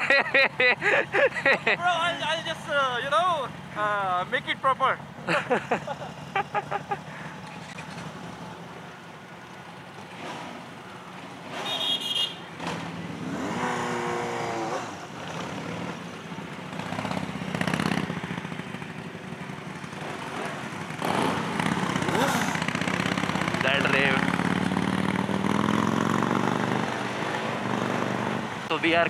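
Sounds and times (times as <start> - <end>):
motorcycle engines idling: 0.0 - 25.8.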